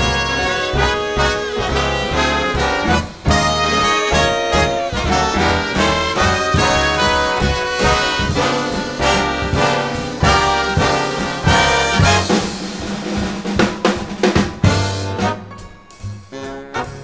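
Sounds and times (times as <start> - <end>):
brass section playing melody: 0.0 - 12.9, 14.6 - 17.0
swing jazz band music: 0.0 - 17.0.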